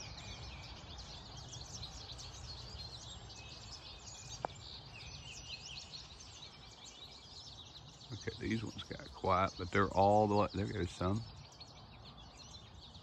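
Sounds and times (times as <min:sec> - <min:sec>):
finches twittering: 0:00.0 - 0:13.0.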